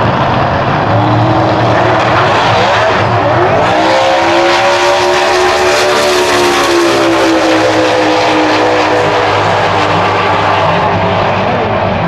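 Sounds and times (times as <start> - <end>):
drag car engine at full throttle: 0.0 - 12.0.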